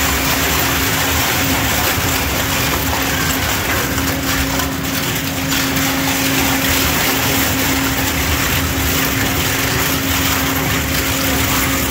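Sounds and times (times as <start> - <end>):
shredder grinding: 0.0 - 11.9
steady hum: 0.0 - 11.9.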